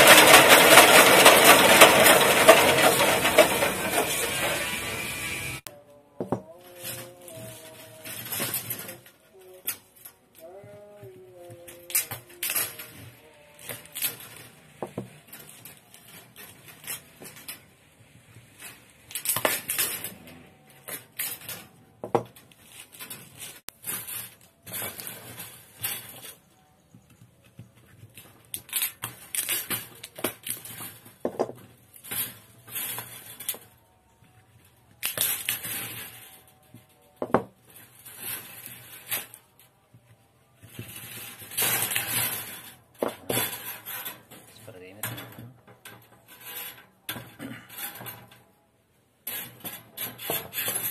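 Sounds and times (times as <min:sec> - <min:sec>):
metallic scraping and rattling: 0:00.0 - 0:05.7, 0:06.6 - 0:10.3, 0:11.7 - 0:27.2, 0:27.8 - 0:50.9.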